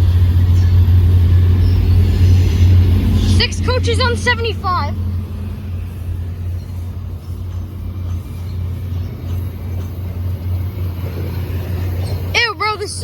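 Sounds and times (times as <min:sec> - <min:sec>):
diesel locomotive droning: 0:00.0 - 0:13.0
train noise: 0:00.0 - 0:13.0.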